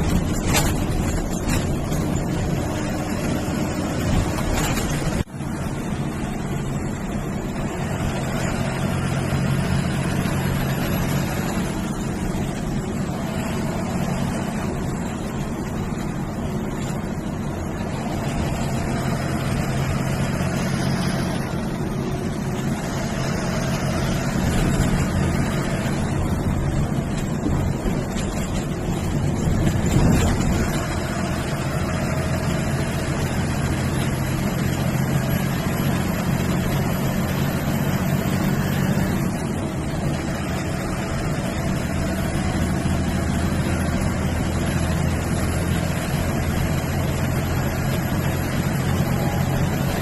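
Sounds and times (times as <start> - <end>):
bus diesel engine droning: 0.0 - 50.0
road and wind noise: 0.0 - 50.0.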